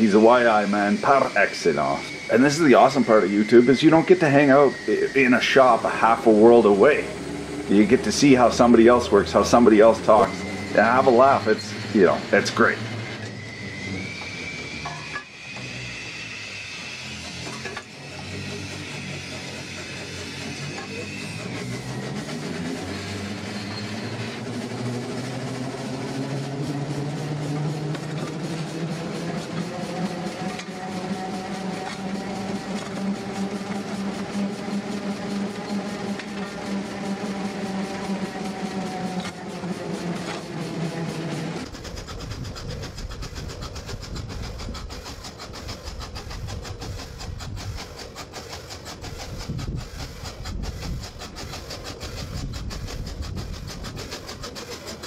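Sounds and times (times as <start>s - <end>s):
constant running noise: 0.0s - 55.0s
steam vehicle low drone: 0.0s - 55.0s.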